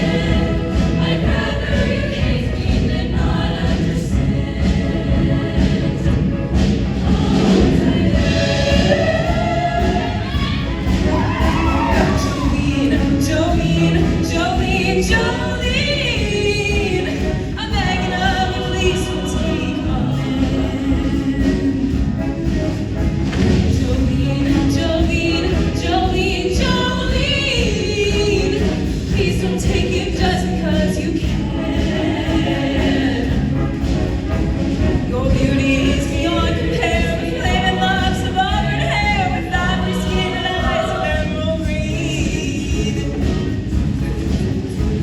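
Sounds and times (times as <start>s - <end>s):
choir singing in parts: 0.0s - 45.0s
instrumental accompaniment: 0.0s - 45.0s.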